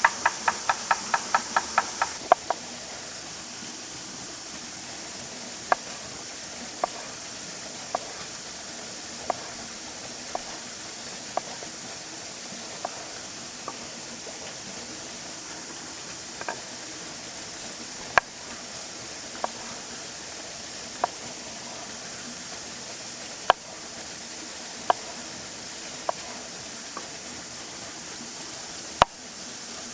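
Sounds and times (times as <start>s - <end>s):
campfire hiss: 0.0s - 29.9s.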